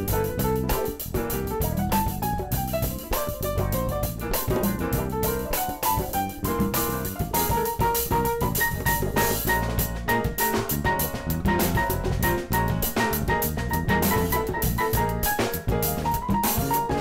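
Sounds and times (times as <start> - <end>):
funk band playing: 0.0 - 17.0.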